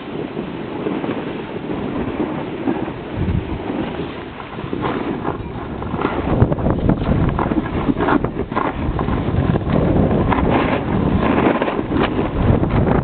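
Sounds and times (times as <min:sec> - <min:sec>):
snow rustling: 0:00.0 - 0:13.0
wind buffeting microphone: 0:00.0 - 0:13.0.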